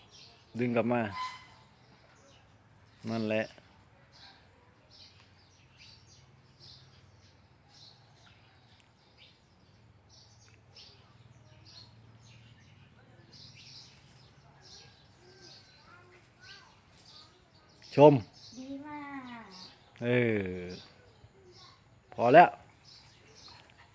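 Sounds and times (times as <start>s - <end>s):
faint high bird chirps: 0.0s - 23.9s.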